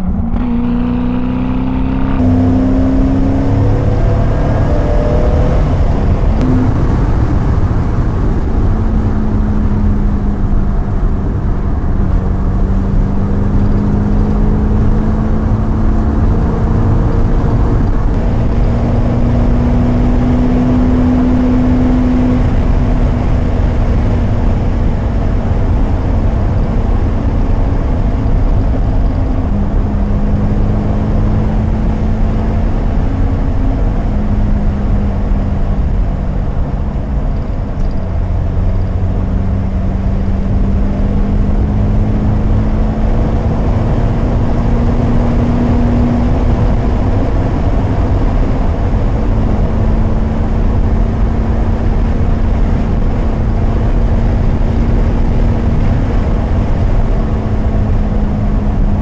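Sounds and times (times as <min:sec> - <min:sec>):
car engine exhaust from inside cabin: 0:00.0 - 0:59.0.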